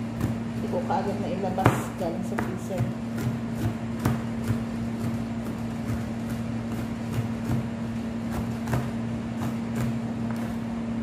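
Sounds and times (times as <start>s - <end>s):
knife chopping on plastic board: 0.0s - 0.7s, 1.5s - 10.5s
low electrical hum: 0.0s - 11.0s.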